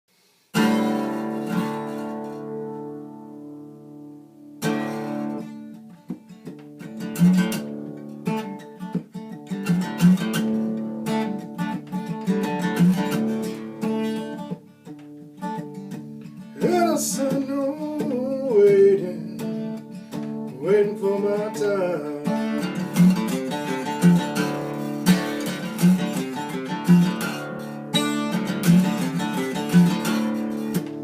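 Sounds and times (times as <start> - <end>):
acoustic guitar blues: 0.5 - 31.0.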